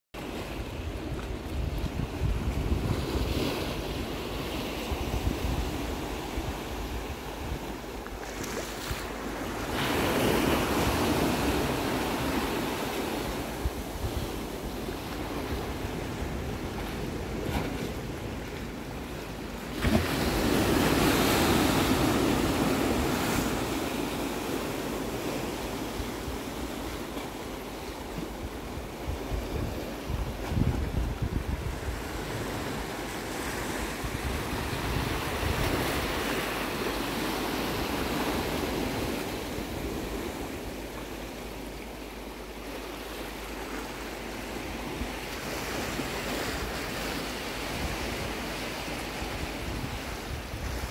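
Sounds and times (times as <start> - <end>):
wind rumbling on microphone: 0.2 - 41.6, 43.4 - 50.9
sea waves washing on rocky shore: 0.2 - 50.9.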